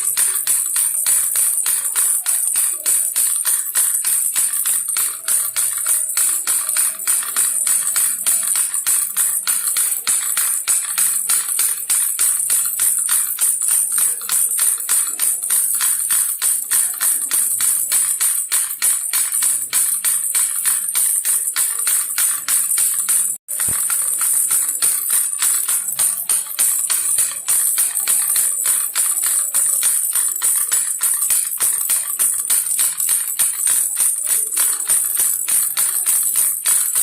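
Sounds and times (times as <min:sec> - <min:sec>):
baby rattle shaking: 0:00.0 - 0:37.0.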